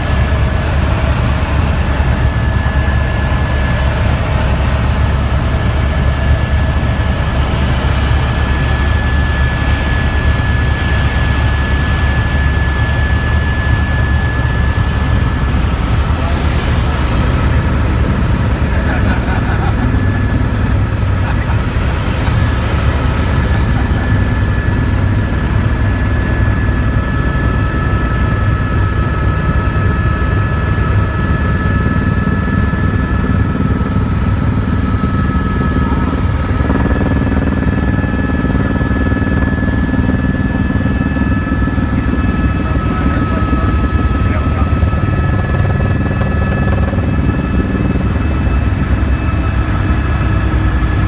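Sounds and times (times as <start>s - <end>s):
helicopter rotor throb: 0.0s - 51.0s.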